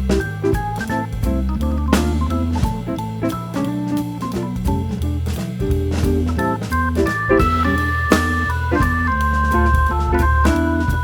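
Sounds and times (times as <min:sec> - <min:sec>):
jazzy organ instrumental: 0:00.0 - 0:11.0.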